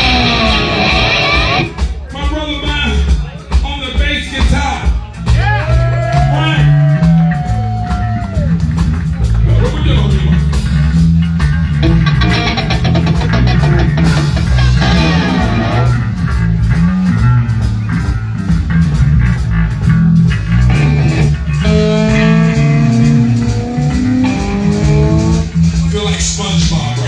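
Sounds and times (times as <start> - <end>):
electric guitar: 0.0 - 1.9, 6.1 - 26.2
bass guitar: 0.0 - 27.0
drums at a steady beat: 0.0 - 27.0.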